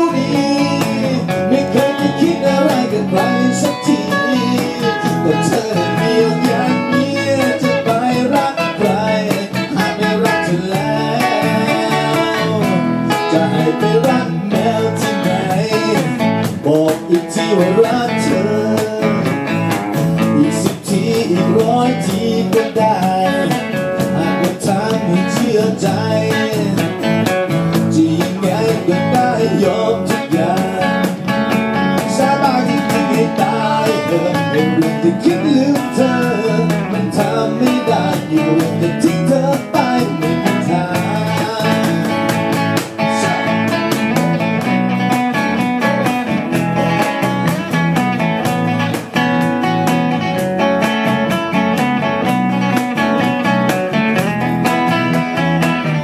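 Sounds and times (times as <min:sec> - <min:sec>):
man singing: 0:00.0 - 0:45.1
cajon tapping: 0:00.0 - 0:56.0
strummed acoustic guitars: 0:00.0 - 0:56.0.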